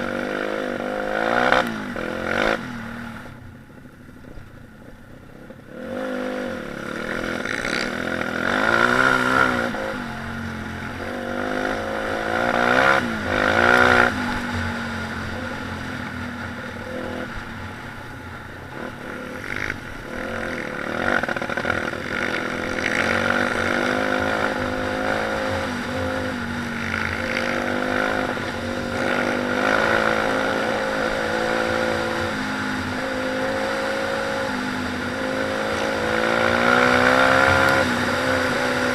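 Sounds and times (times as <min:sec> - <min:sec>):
pit bike engine revving: 0:00.0 - 0:03.3, 0:05.7 - 0:38.9.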